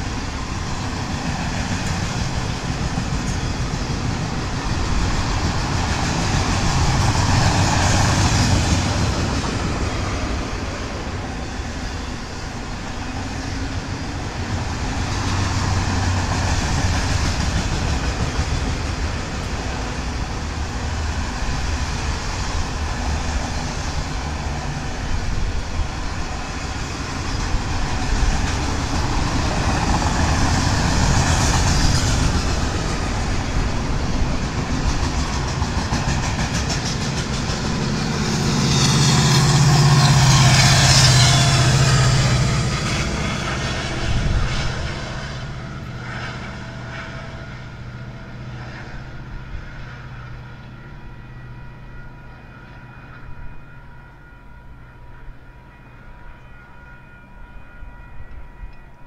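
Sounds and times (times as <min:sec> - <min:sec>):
train wheels rattling on rail: 0:00.0 - 0:53.7
diesel locomotive drone: 0:00.0 - 0:59.0.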